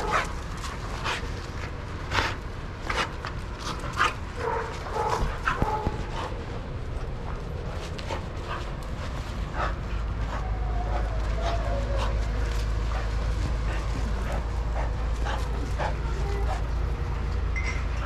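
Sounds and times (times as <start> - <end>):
dogs barking and yipping: 0.0 - 17.6.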